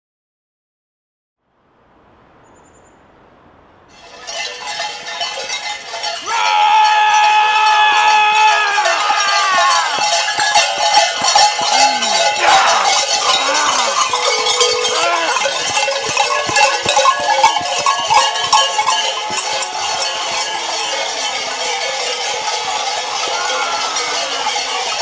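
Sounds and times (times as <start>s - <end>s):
large cowbells clanging: 3.9s - 25.0s.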